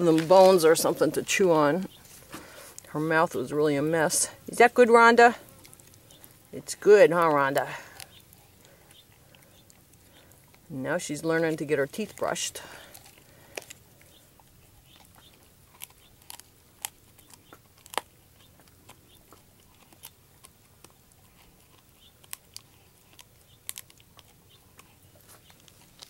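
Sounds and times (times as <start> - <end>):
dog gnawing rawhide: 0.0 - 26.0.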